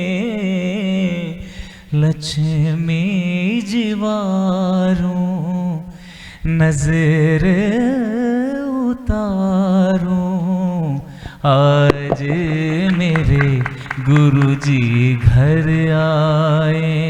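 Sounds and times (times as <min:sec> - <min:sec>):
man singing devotional song: 0:00.0 - 0:17.0.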